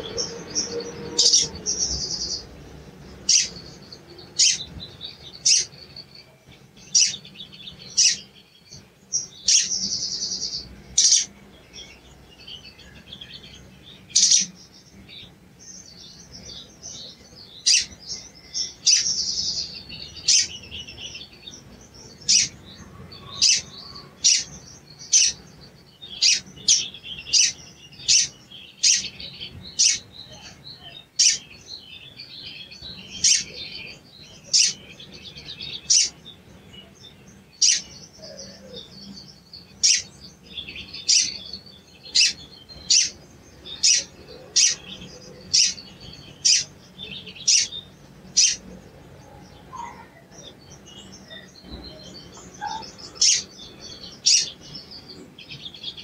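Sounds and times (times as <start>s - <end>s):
bird scratchy twittering: 0.0s - 56.0s
sunbird high chirps: 0.0s - 56.0s.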